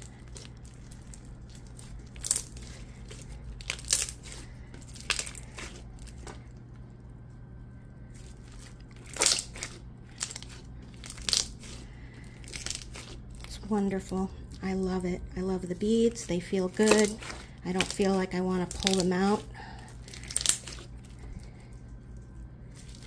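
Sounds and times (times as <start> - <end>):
hands squishing slime: 0.0 - 6.7, 8.1 - 14.7, 15.4 - 23.0.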